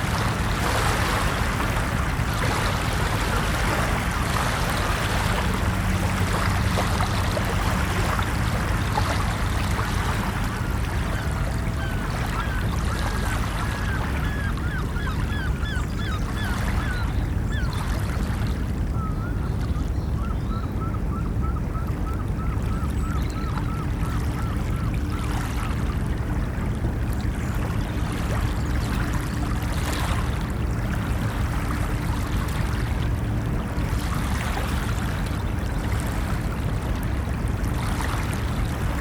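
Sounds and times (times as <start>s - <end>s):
ocean waves: 0.0s - 39.0s.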